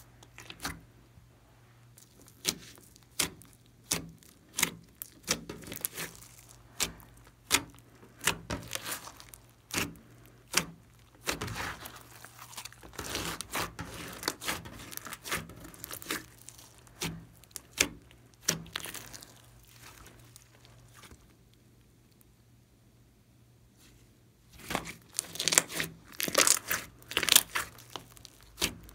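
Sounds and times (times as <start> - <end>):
slime tearing: 2.0 - 21.4, 24.6 - 28.9.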